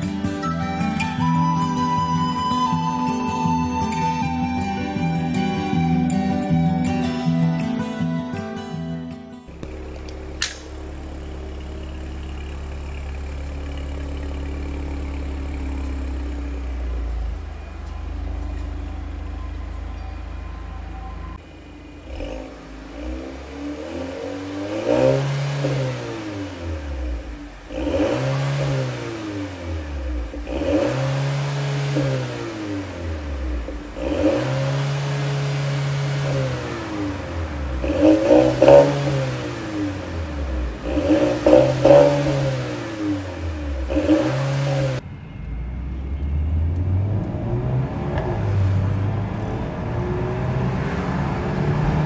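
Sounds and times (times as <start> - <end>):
car pulling away: 0.0 - 8.3, 9.4 - 52.0
car engine revving: 9.4 - 52.0.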